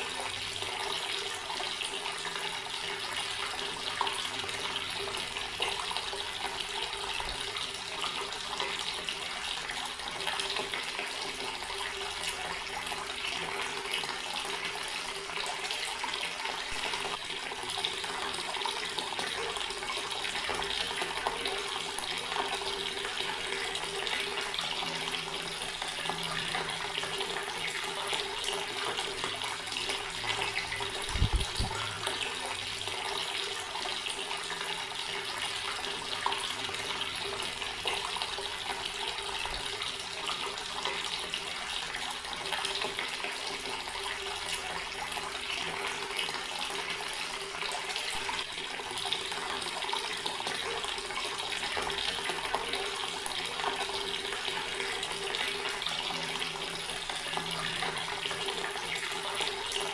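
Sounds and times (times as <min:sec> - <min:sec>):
water tap running: 0:00.0 - 0:59.9.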